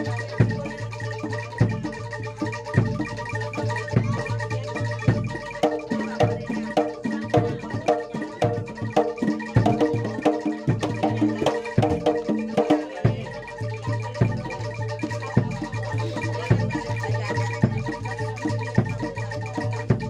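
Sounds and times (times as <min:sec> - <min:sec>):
metallophones ringing: 0:00.0 - 0:20.0
heavy drum strokes: 0:02.8 - 0:20.0.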